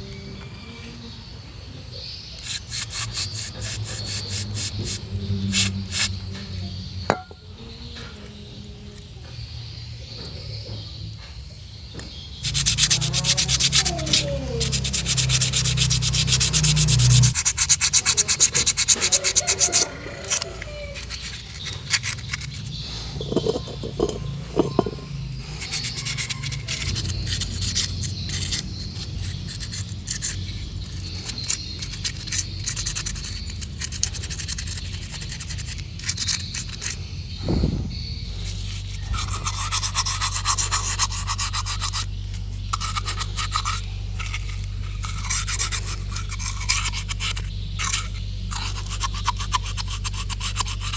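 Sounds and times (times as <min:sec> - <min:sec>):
scrubbing metal parts: 0:02.0 - 0:09.0, 0:12.3 - 0:50.9.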